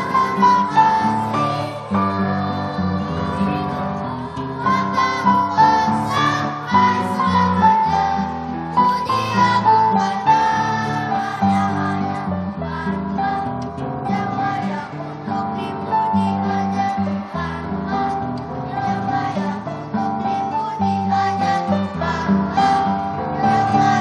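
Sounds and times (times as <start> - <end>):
children's choir singing: 0.0 - 24.0.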